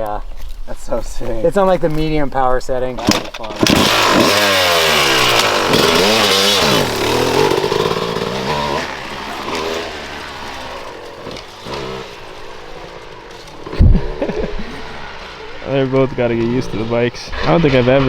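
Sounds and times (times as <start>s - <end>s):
dirt bike revving and riding off: 2.9s - 18.0s.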